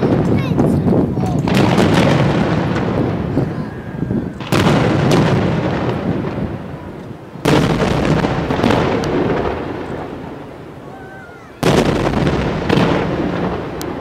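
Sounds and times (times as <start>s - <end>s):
firework shells booming: 0.0s - 14.0s
long rumbling echo: 0.0s - 14.0s.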